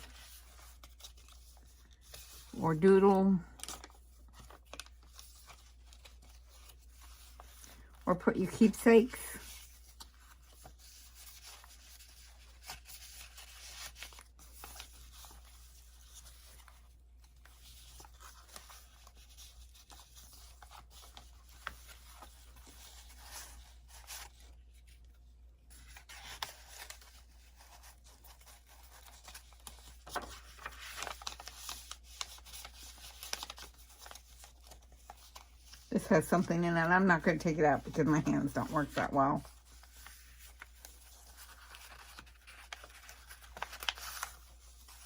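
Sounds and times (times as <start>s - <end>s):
paper pages rustling: 0.0s - 45.0s.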